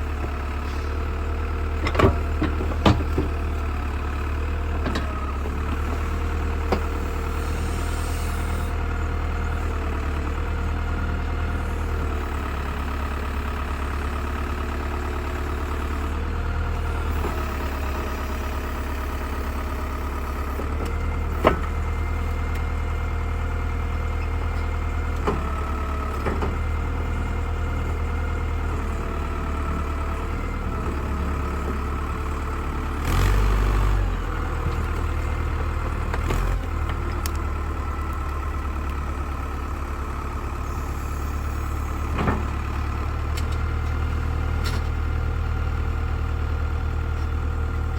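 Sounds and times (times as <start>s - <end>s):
backhoe engine running: 0.0s - 47.9s.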